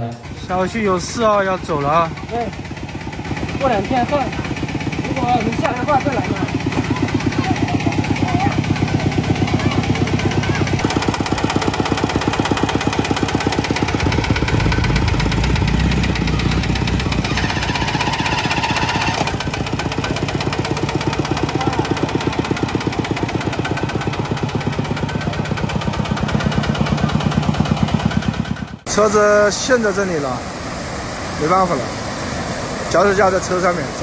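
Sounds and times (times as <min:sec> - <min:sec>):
vehicle engine chugging: 0:00.0 - 0:29.1.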